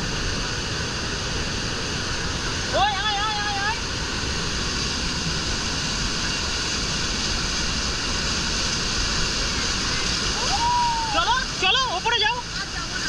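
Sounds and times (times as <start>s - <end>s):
waterfall crashing onto rocks: 0.0s - 13.0s.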